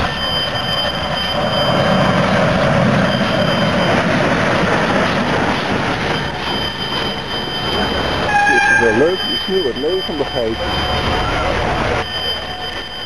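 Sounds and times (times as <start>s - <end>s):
steam locomotive rolling past: 0.0s - 13.0s.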